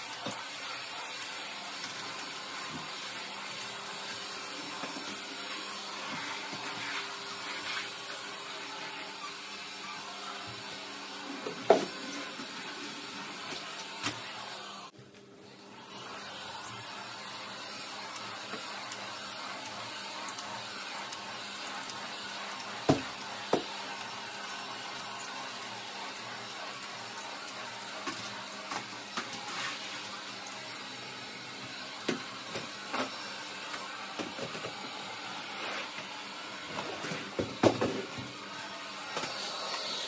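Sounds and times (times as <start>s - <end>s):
stick vacuum cleaner running: 0.0s - 40.0s.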